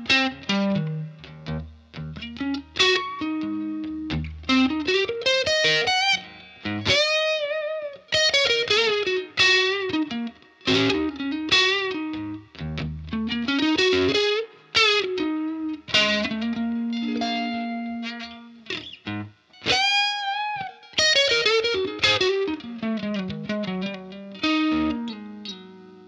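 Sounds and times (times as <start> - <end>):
electric guitar lead: 0.0 - 26.0.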